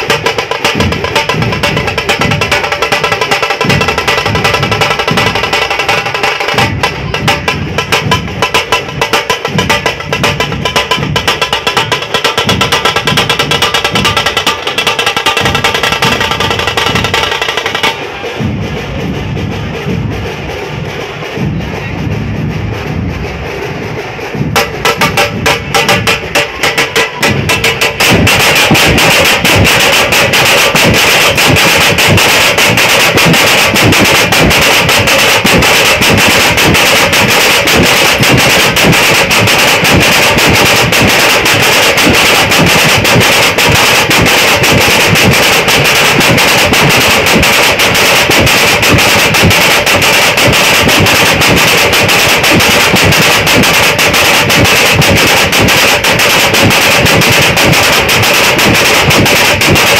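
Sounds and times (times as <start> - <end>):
fast loud drumming: 0.0 - 59.9.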